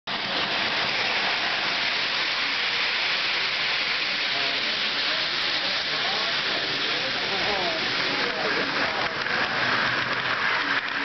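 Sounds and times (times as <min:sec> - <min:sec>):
model trains rolling on track: 0:00.1 - 0:11.0.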